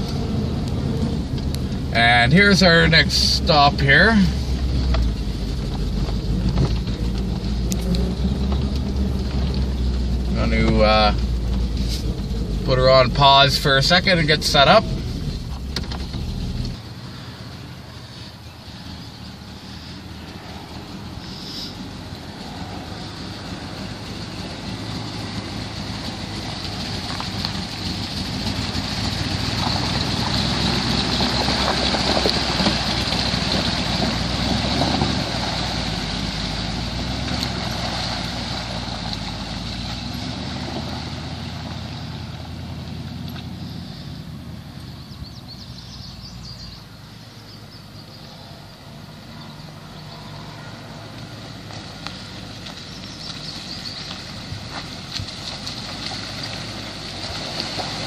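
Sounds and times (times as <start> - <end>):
car engine driving past: 0.0 - 58.0.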